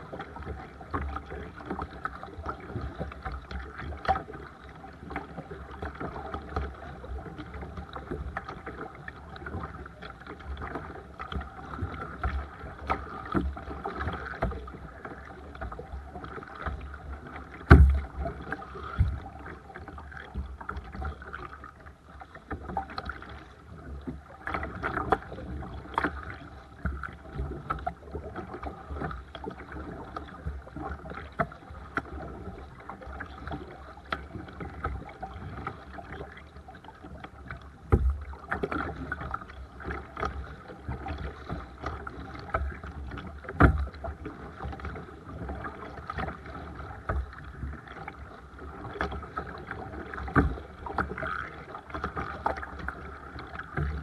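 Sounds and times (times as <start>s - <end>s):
paddle water splashing and dripping: 0.0s - 54.0s
water swishing along hull: 0.0s - 54.0s.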